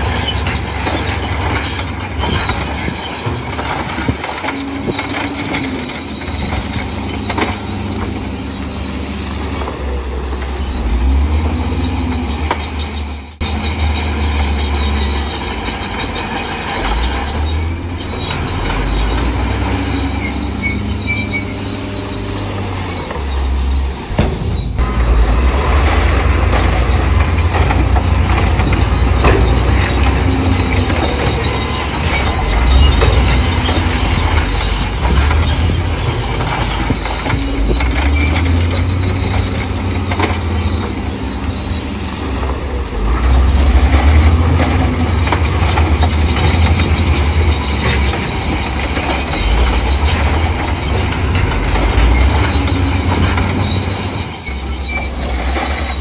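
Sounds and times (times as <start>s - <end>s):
diesel machinery engine drone: 0.0s - 56.0s
high metallic squeals: 0.0s - 56.0s.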